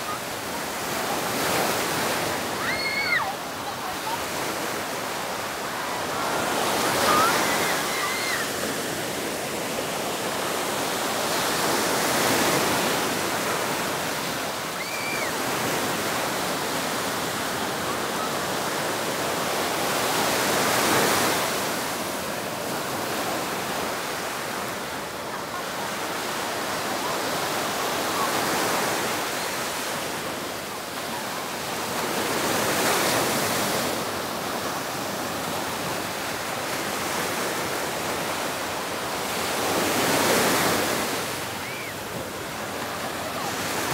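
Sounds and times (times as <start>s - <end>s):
waves breaking on beach: 0.0s - 43.9s.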